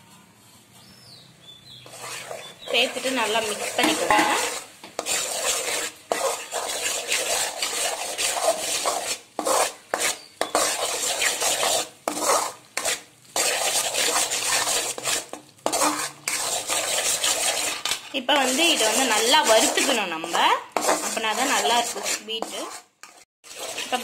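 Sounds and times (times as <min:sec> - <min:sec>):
batter sizzling: 0:01.5 - 0:24.0
metal spoon scraping pan: 0:01.7 - 0:24.0.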